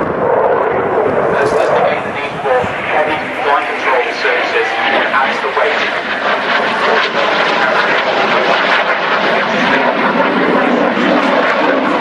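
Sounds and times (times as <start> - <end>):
aircraft engines flying overhead: 0.0 - 12.0.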